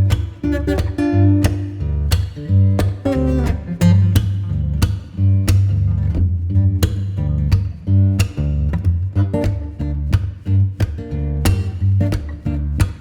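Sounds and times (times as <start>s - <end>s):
guitar music with bass: 0.0s - 13.0s.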